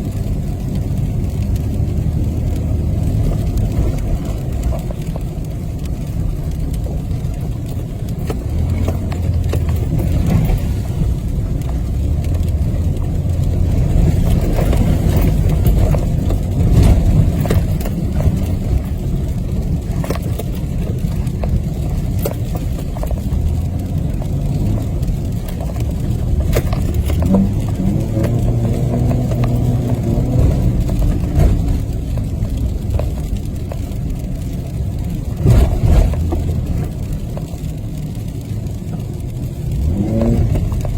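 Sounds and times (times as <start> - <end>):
vehicle engine and tyres rumbling: 0.0 - 40.9
tyres crunching over ice: 2.1 - 37.6.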